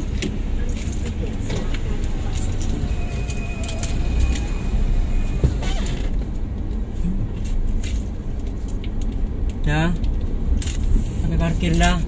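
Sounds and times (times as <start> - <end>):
car driving rumble from inside: 0.0 - 12.0.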